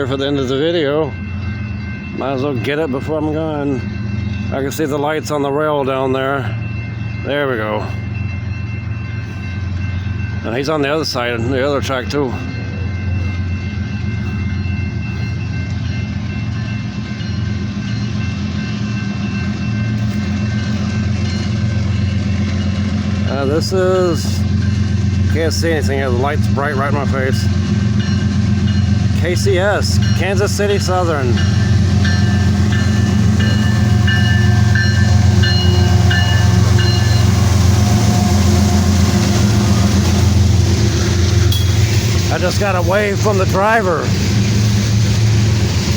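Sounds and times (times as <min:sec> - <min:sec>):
bell ringing: 0:00.0 - 0:44.1
diesel locomotive engine drone: 0:00.0 - 0:45.9.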